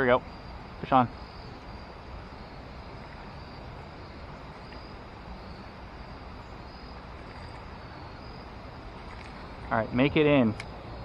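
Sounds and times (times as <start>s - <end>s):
crickets chirping faintly: 0.0s - 11.0s
river water running over rocks: 0.2s - 11.0s.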